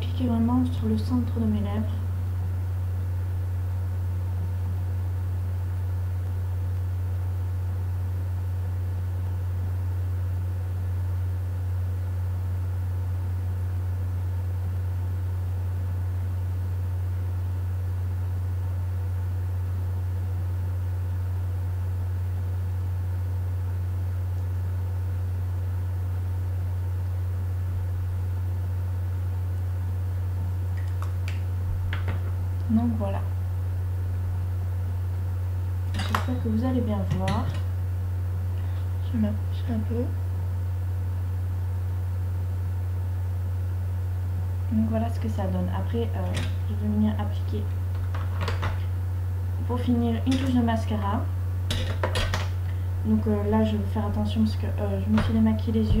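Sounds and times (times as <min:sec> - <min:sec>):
low hum with faint hiss: 0:00.0 - 0:56.0.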